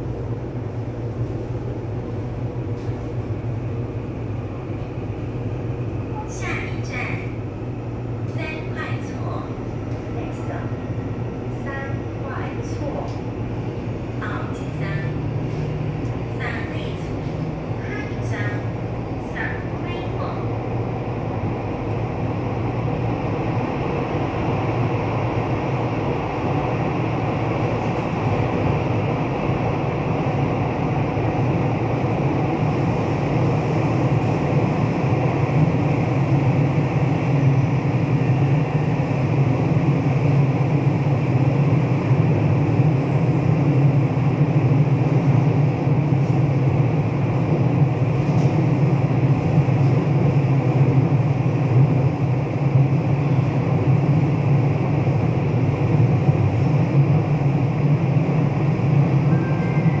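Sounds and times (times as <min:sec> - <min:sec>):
train running rumble: 0:00.0 - 1:00.0.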